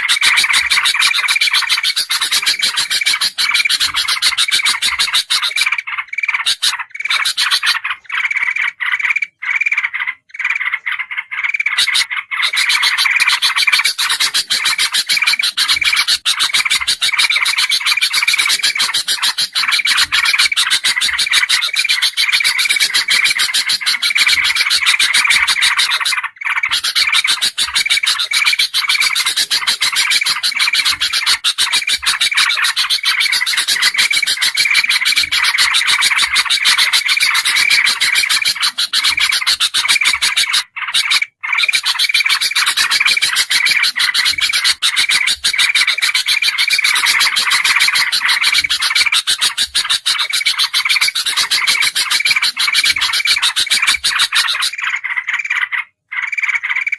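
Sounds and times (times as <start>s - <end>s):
bulbuls chattering: 0.0s - 56.9s.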